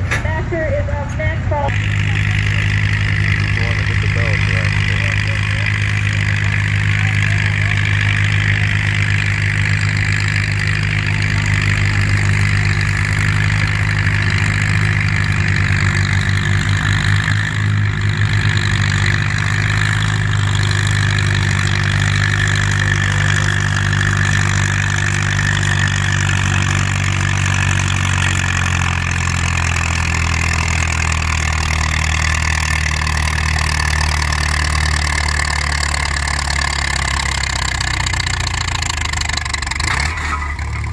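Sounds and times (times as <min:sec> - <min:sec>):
tractor engine running under load: 0:00.0 - 0:40.9.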